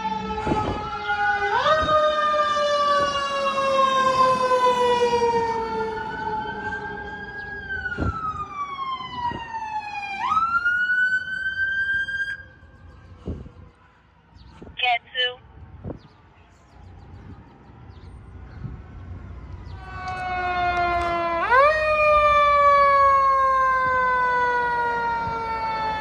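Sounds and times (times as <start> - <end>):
fire engine sirens wailing: 0.0 - 26.0.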